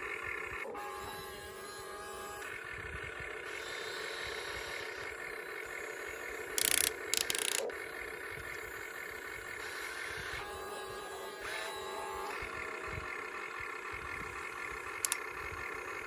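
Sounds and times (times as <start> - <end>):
toy excavator motors whining: 0.0 - 16.0.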